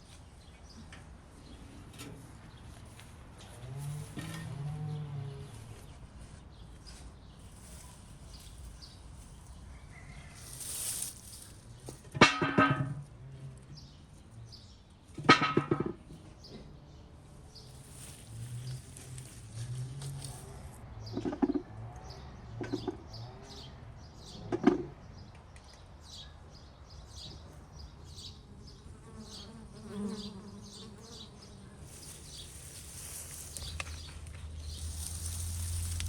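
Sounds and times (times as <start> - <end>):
small birds chirping: 0.0 - 12.0, 16.1 - 36.0.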